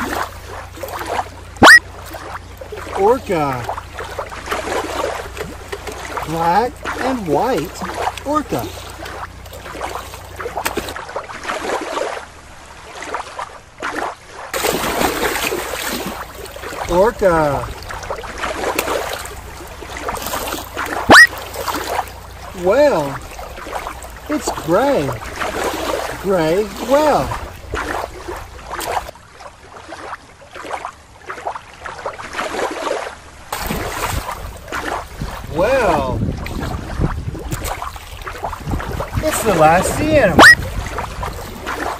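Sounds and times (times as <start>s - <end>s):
water splashing and sloshing: 0.0s - 41.9s.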